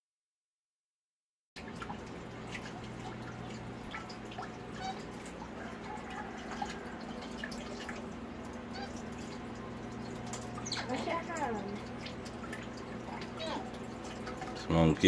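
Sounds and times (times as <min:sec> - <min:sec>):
low steady hum: 0:01.6 - 0:15.0
water dripping and trickling: 0:01.6 - 0:15.0.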